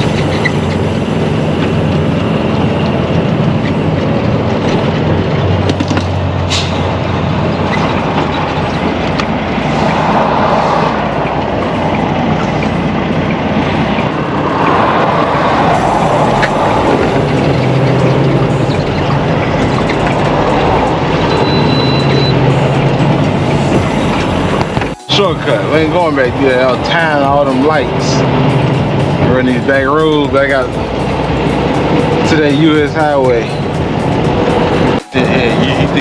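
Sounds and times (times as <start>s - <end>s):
engine hum: 0.0s - 36.0s.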